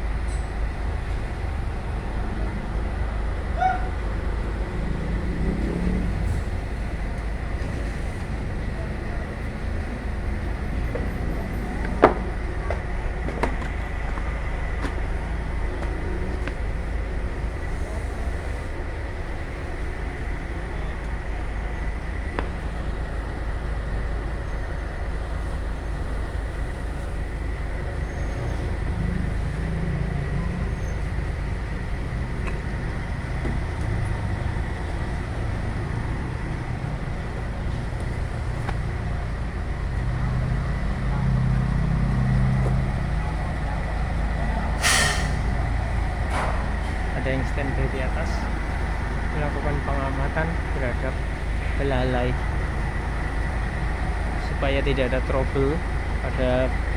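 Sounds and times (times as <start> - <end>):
heavy diesel machinery running: 0.0 - 56.9.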